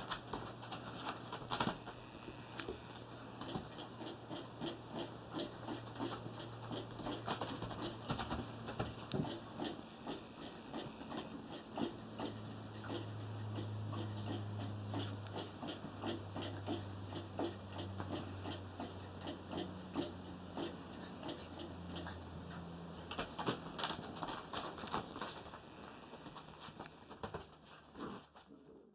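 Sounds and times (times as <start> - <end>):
puppy paws clicking: 0.0 - 28.4
low steady hum: 0.0 - 28.9.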